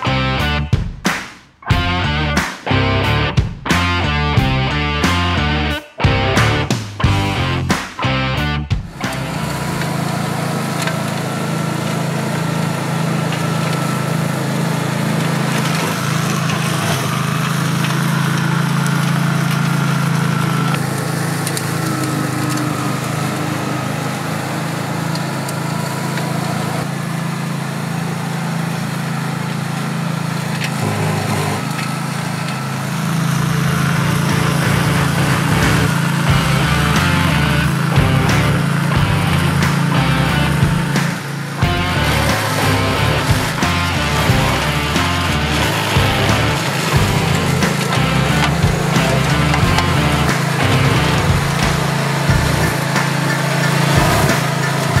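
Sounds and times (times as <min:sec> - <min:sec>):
mower engine running under load: 0:01.7 - 0:08.2, 0:08.8 - 0:55.0
flail rotor cutting grass: 0:09.0 - 0:55.0.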